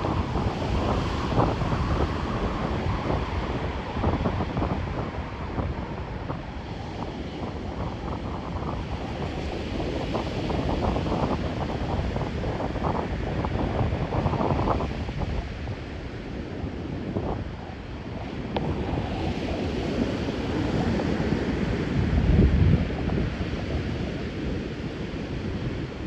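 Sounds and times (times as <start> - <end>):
heavy surf rushing: 0.0 - 26.0
wind buffeting microphone: 0.0 - 26.0.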